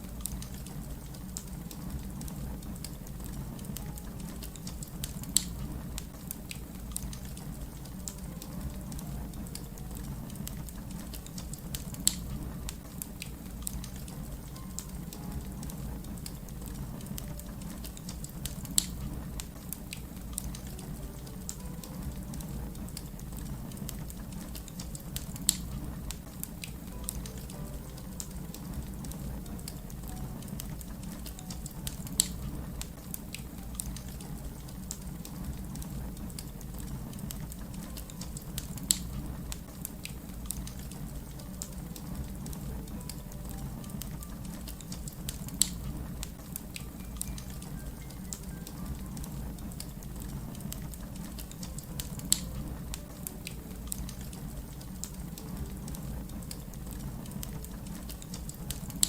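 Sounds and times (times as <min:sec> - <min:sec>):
fire crackling: 0:00.0 - 0:59.0
fire popping: 0:00.0 - 0:59.0.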